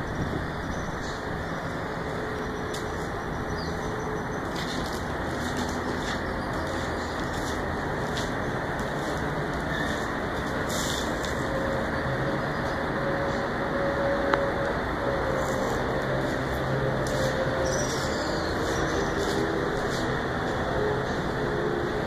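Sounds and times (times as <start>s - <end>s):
distant city traffic hum: 0.0s - 22.0s
faint engine drone: 0.0s - 22.0s.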